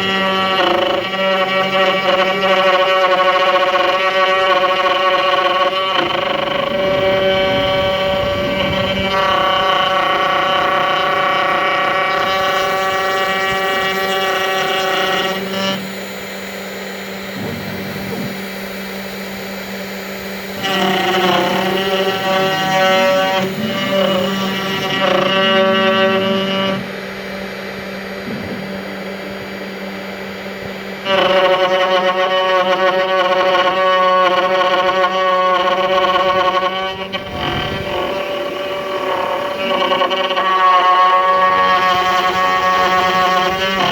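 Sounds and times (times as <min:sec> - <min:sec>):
high-pitched whine: 0:00.0 - 0:43.9
router motor hum: 0:00.0 - 0:43.9.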